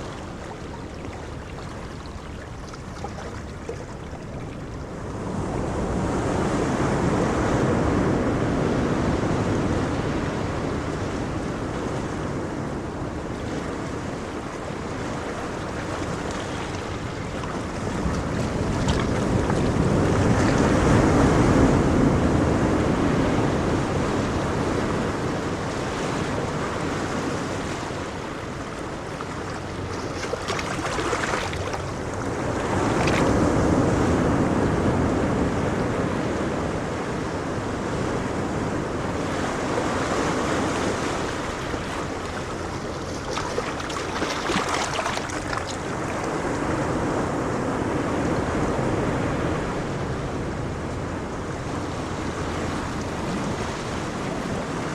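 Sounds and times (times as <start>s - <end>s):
waves breaking on a beach: 0.0s - 54.9s
wind on microphone: 0.0s - 54.9s.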